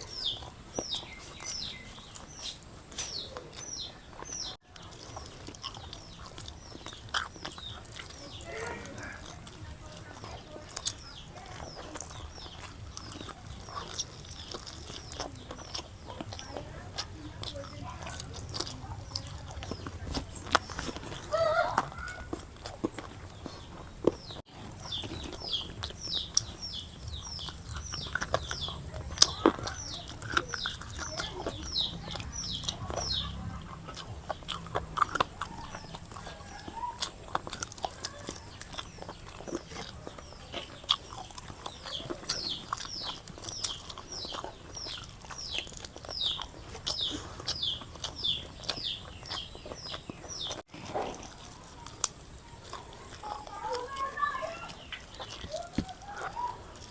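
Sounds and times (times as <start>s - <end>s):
chewing with wet smacks: 0.0s - 56.9s.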